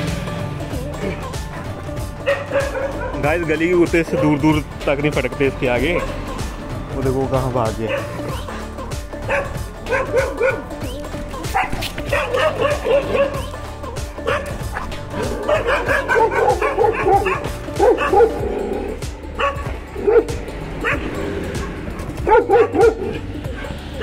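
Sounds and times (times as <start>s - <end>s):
dogs barking and yipping: 0.8s - 4.8s, 5.9s - 6.3s, 7.7s - 24.0s.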